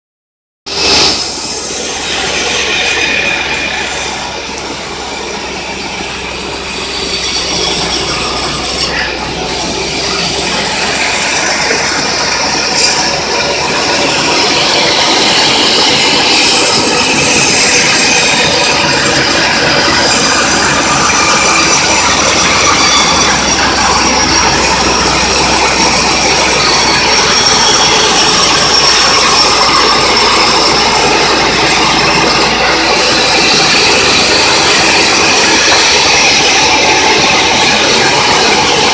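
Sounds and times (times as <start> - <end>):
band saw cutting log: 0.7 - 38.9.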